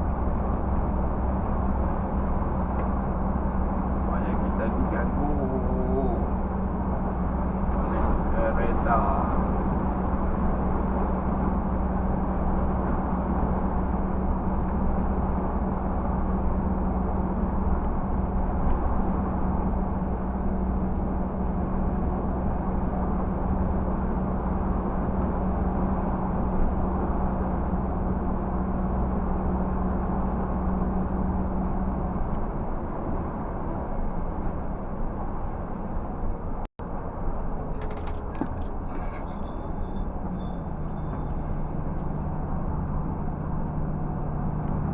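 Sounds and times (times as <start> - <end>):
truck diesel engine droning: 0.0 - 44.9.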